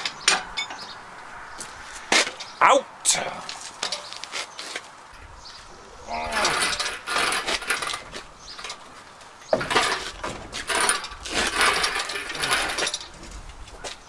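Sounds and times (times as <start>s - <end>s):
engine hoist rattling and squeaking: 0.0s - 1.1s, 3.8s - 14.0s.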